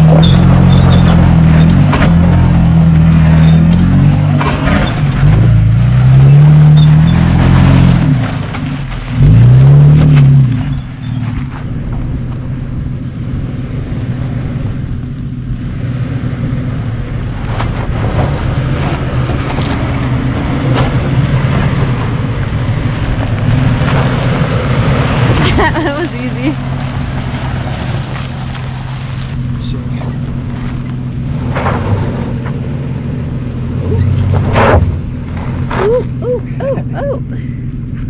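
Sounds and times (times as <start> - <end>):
wheels spinning in loose dirt: 0.0 - 36.3
pickup truck engine revving: 0.0 - 37.0.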